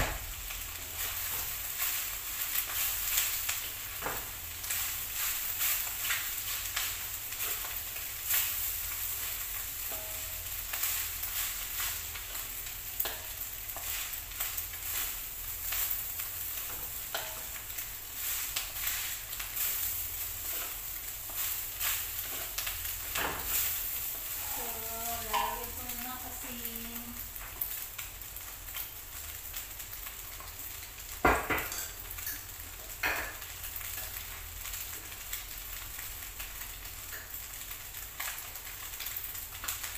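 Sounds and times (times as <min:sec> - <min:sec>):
food sizzling in wok: 0:00.0 - 0:39.9.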